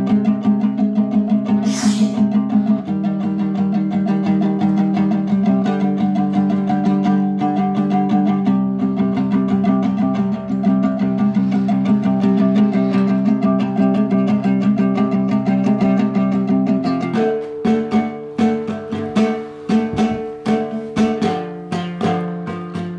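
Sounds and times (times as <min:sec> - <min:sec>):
plucked string instrument strumming: 0:00.0 - 0:22.9.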